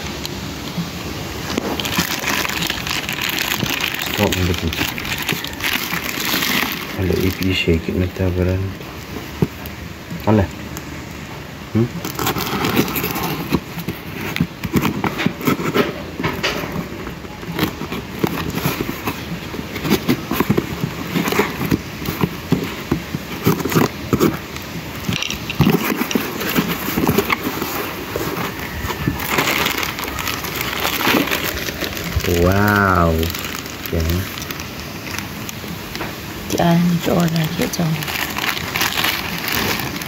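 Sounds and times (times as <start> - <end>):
plastic packaging rustling: 0.7 - 10.6, 11.8 - 40.0
cardboard and tape tearing: 1.4 - 8.5, 11.8 - 40.0.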